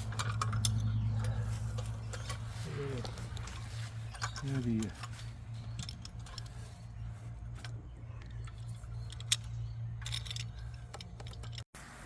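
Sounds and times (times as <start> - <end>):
metal tools clinking: 0.0 - 11.7.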